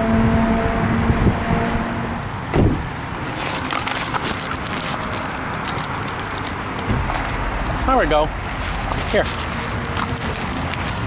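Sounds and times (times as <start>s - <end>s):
road traffic hum: 0.0s - 11.0s
light ticks and scuffs: 1.7s - 11.0s.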